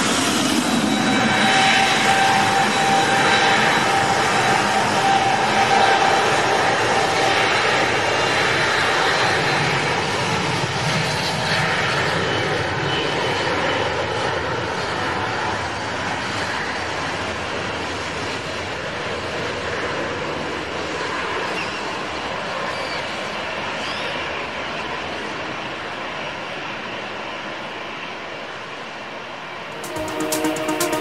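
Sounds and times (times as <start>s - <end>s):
jet engines rushing with whine: 0.0s - 31.0s.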